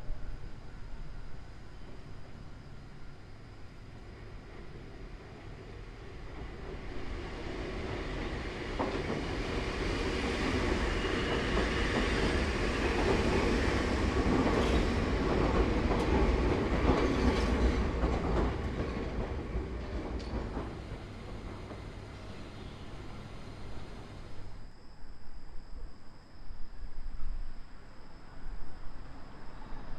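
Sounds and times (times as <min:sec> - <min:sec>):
electric train passing: 0:00.1 - 0:24.7, 0:27.1 - 0:29.9.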